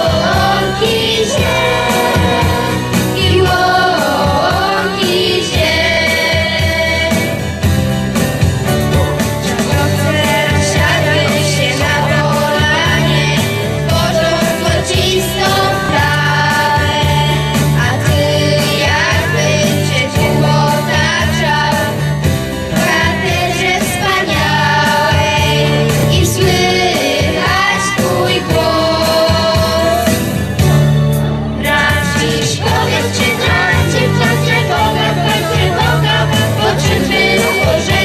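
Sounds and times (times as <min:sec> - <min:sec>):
children's choir singing: 0:00.0 - 0:07.8, 0:09.4 - 0:30.2, 0:31.6 - 0:38.0
accompaniment with steady beat: 0:00.0 - 0:38.0.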